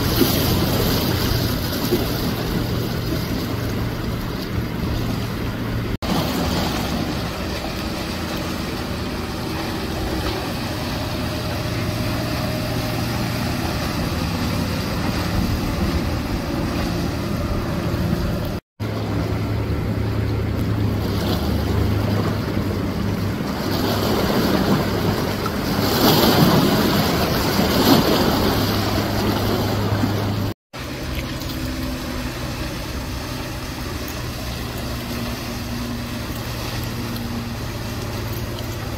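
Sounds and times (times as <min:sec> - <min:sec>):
boat engine drone: 0:00.0 - 0:38.9
rush of boat wakes: 0:00.0 - 0:38.9.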